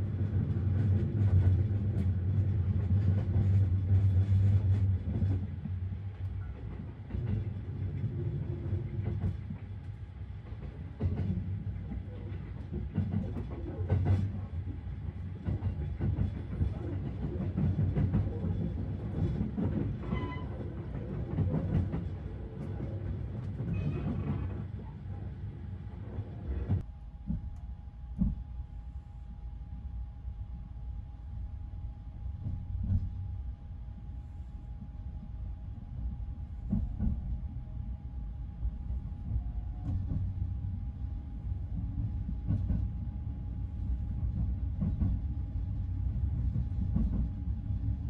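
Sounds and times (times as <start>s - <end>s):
train running low rumble: 0.0s - 48.0s.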